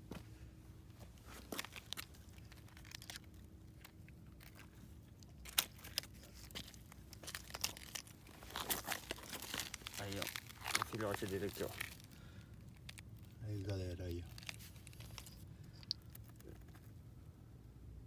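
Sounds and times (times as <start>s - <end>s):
rustling and crinkling: 0.0s - 17.0s
faint steady hum: 0.0s - 18.0s.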